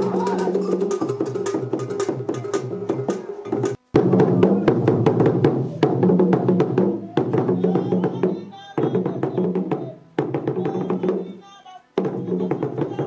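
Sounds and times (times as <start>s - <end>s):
drums knocking in driving rhythm: 0.0s - 11.4s, 12.0s - 13.0s.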